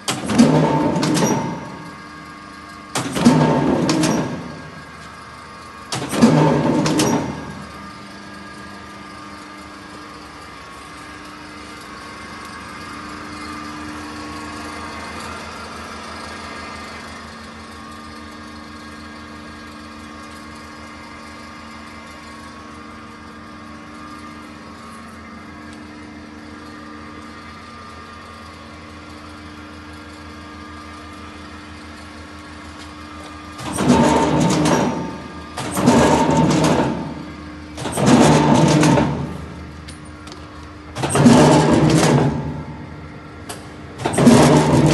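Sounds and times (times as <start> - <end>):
loud mechanical clatter: 0.0 - 23.4, 26.7 - 44.9
machine humming: 0.0 - 44.9.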